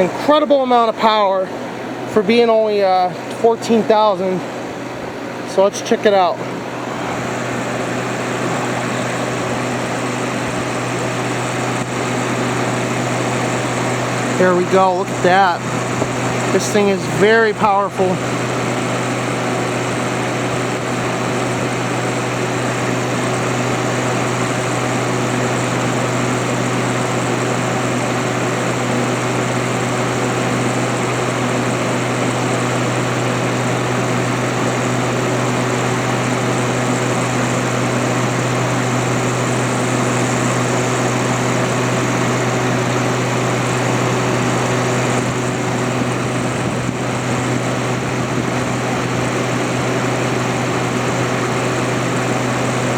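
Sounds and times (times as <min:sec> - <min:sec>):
air conditioner fan rushing air: 0:00.0 - 0:52.9.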